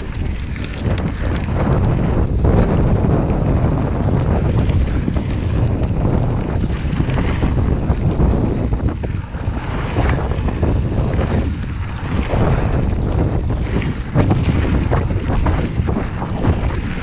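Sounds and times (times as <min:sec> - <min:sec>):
bike clicks and rattles: 0:00.0 - 0:09.6, 0:10.2 - 0:17.0
wind buffeting microphone: 0:00.0 - 0:17.0.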